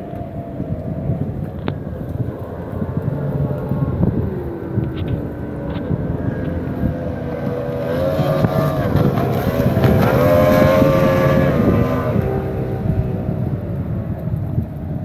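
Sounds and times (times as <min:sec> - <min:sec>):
speedboat outboard motor passing: 0:00.0 - 0:14.7.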